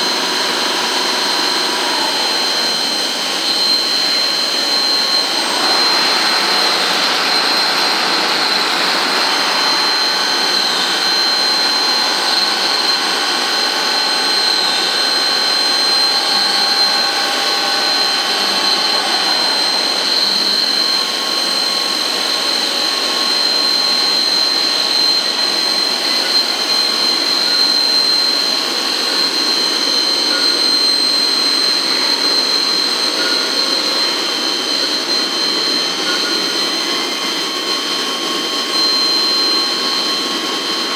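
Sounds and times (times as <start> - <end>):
lathe machine whine: 0.0 - 40.9.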